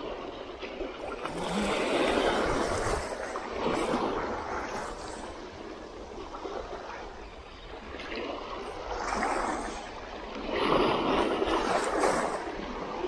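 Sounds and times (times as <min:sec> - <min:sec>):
waves washing against rocks: 0:00.0 - 0:13.0.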